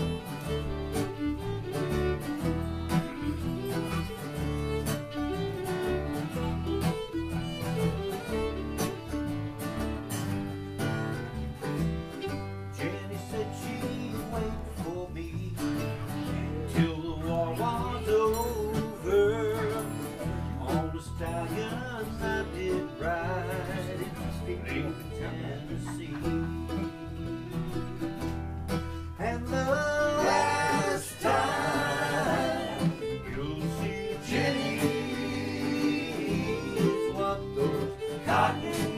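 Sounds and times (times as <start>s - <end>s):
bluegrass string band playing: 0.0s - 38.9s.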